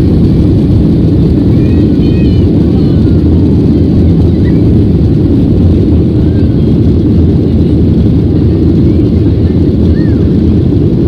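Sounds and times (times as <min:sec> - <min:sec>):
jet engine and airflow rumble in cabin: 0:00.0 - 0:11.0.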